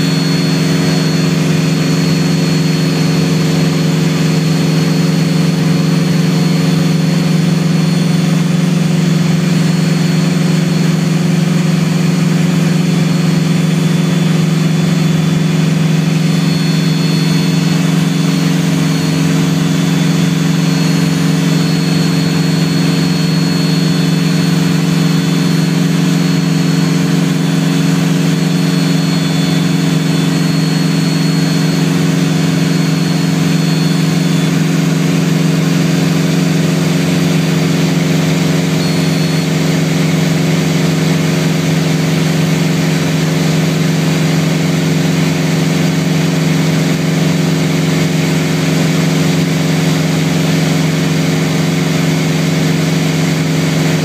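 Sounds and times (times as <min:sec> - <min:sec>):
aircraft engine drone in cabin: 0:00.0 - 0:54.0.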